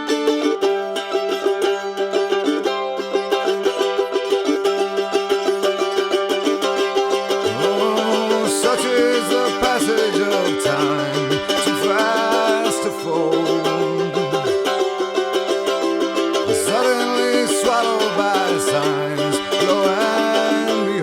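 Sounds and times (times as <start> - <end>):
plucked strings music: 0.0 - 21.0
sliding melody line: 2.6 - 21.0.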